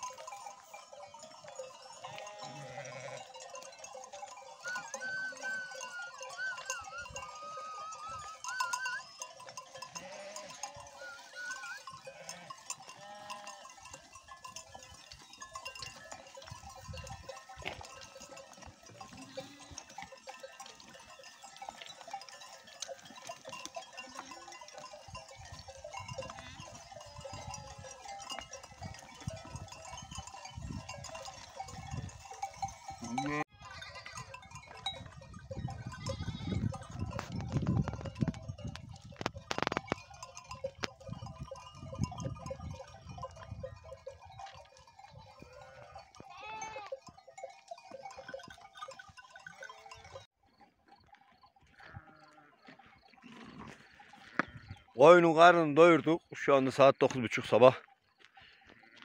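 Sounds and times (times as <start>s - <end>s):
sheep and goats bleating: 0.0s - 38.7s, 39.3s - 50.7s, 51.3s - 56.5s, 58.2s - 59.0s
animal neck bells clinking: 0.0s - 59.0s.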